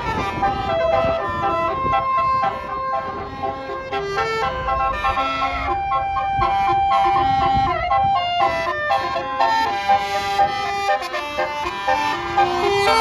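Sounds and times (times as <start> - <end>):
bus horn playing a tune: 0.0 - 13.0.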